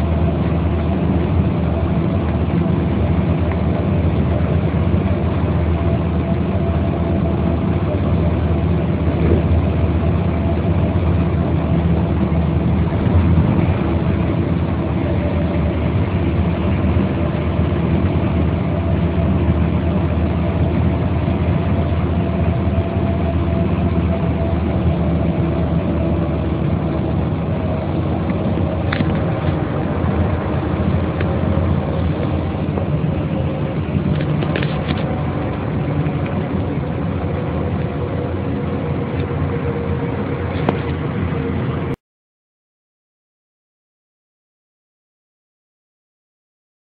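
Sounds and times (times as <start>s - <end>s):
bus engine running: 0.0s - 42.0s.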